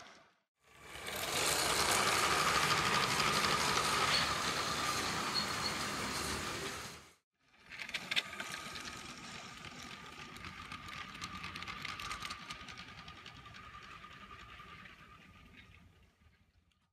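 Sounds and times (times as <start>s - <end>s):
toy train motor whining: 0.7s - 7.1s, 7.7s - 15.6s
wheels clicking over track: 0.8s - 16.7s.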